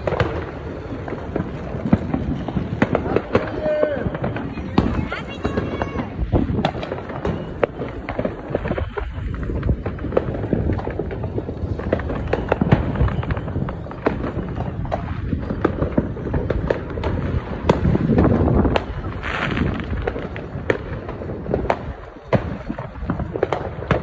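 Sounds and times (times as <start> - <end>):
fireworks popping and banging: 0.0 - 24.0.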